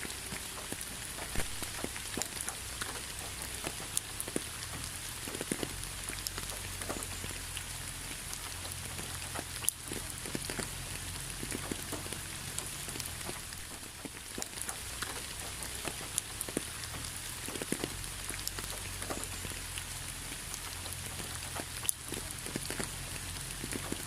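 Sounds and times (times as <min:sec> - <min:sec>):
raindrops striking close by: 0:00.0 - 0:24.0
steady rain falling: 0:00.0 - 0:24.0.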